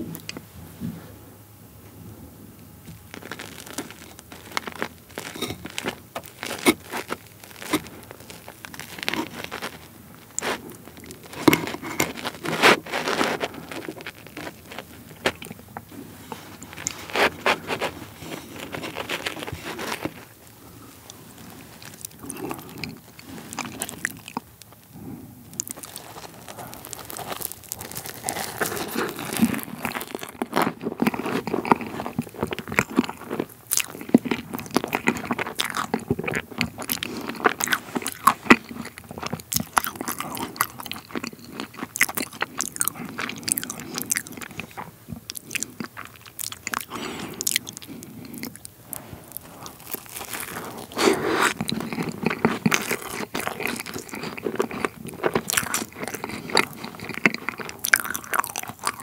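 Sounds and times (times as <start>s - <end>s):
meringue crackling under a knife: 2.8s - 59.0s
chewing: 3.0s - 59.0s.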